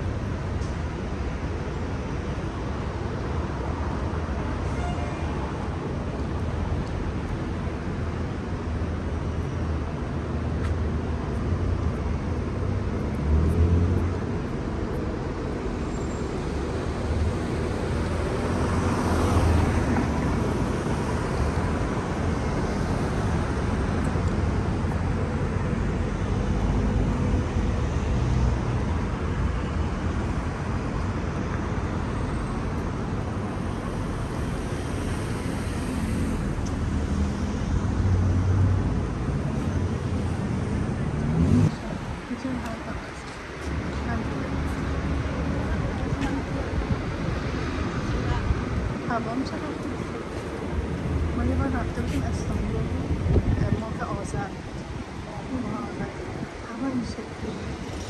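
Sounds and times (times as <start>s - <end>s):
traffic rumble: 0.0s - 58.0s
vehicles passing close: 0.0s - 58.0s.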